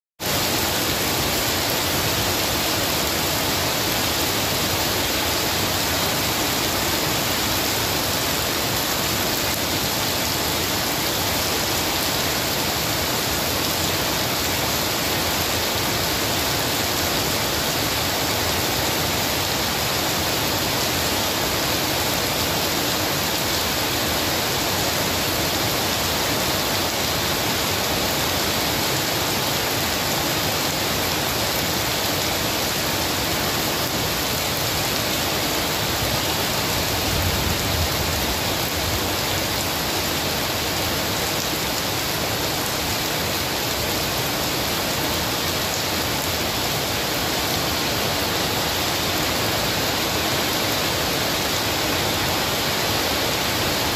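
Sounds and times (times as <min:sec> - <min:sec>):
heavy rain on wet paving: 0:00.2 - 0:53.9.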